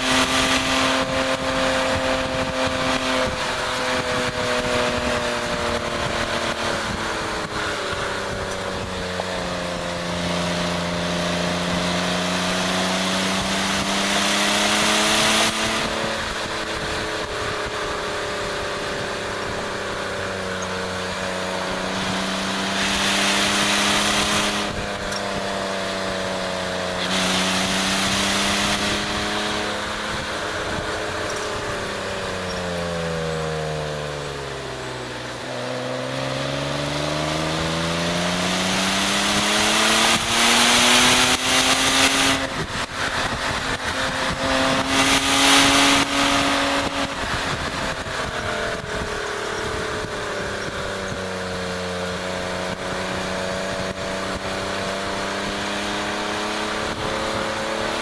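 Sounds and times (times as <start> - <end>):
car engine revving on track: 0.0 - 58.0
rushing wind noise: 0.0 - 58.0.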